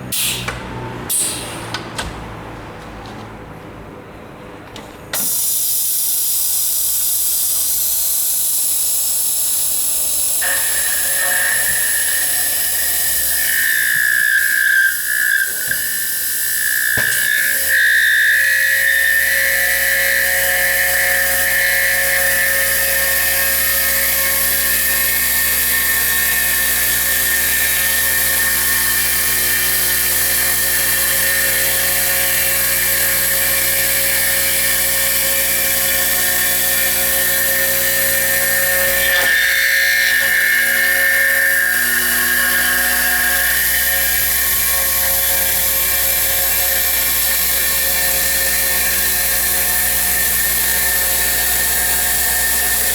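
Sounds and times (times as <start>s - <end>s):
router spindle whining: 9.7s - 52.9s.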